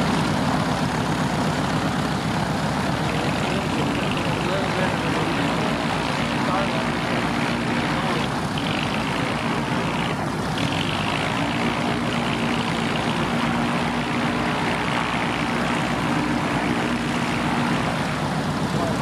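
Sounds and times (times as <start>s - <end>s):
gyroplane engine and propeller running: 0.0s - 19.0s.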